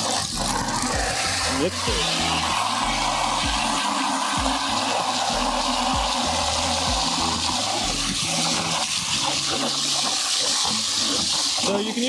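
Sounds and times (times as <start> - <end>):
hose spraying water into bucket: 0.0 - 12.0.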